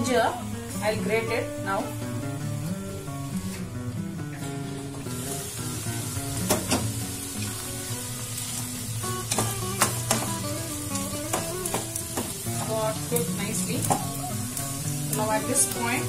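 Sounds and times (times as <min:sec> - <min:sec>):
background music: 0:00.0 - 0:16.0
greens sizzling in pan: 0:00.0 - 0:16.0.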